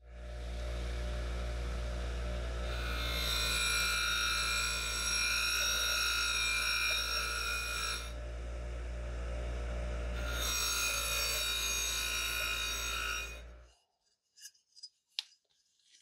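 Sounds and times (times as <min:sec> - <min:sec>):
bench grinder motor hum: 0:00.0 - 0:13.7.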